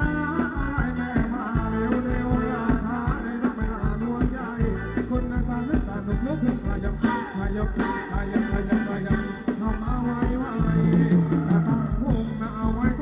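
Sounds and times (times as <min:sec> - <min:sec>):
bending melody line: 0:00.0 - 0:13.0
live band dance music: 0:00.0 - 0:13.0
steady drum beat: 0:00.0 - 0:13.0.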